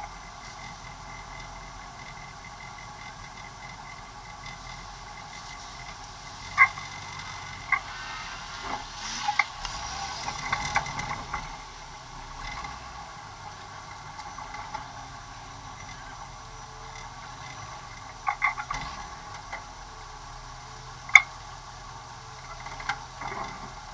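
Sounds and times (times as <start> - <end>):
off-road vehicle rumble: 0.0 - 23.9.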